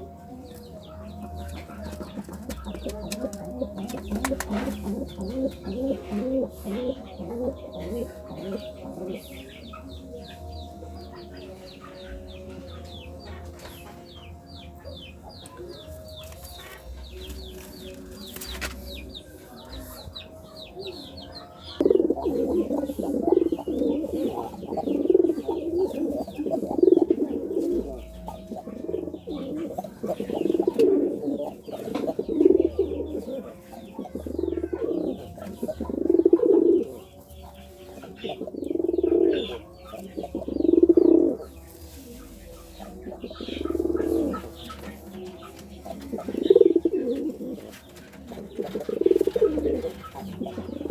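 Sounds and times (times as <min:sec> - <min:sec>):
pigeon cooing: 0:00.0 - 0:50.9
small birds chirping: 0:00.0 - 0:50.9.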